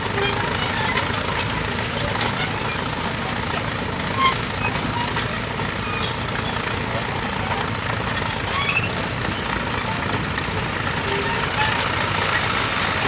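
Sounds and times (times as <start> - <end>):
crawler tractor engine running: 0.0 - 13.0.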